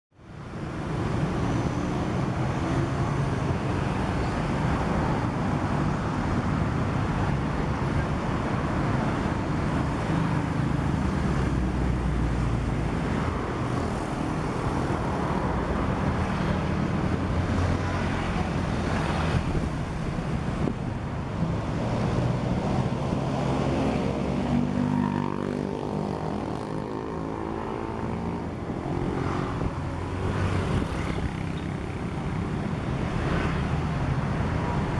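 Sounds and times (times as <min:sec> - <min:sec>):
traffic noise: 0:00.1 - 0:34.9.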